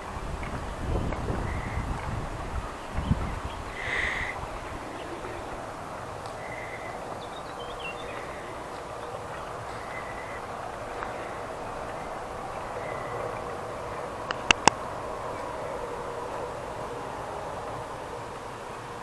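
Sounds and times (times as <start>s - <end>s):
songbirds calling and twittering: 0.0s - 19.0s
steady rushing hiss: 0.0s - 19.0s.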